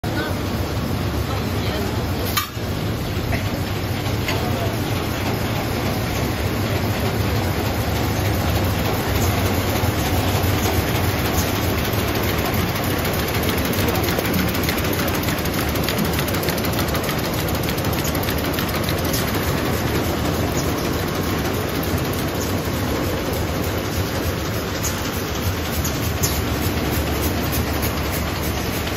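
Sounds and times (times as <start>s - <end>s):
machine running with mechanical din: 0.1s - 28.9s
fine rapid ticking: 4.0s - 28.9s.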